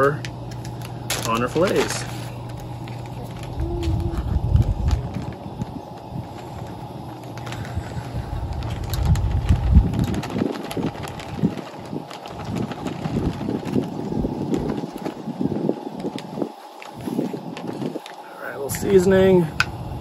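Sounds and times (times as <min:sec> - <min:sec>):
flour poured into plastic bag: 0:00.0 - 0:19.5
low rumble: 0:00.2 - 0:18.1.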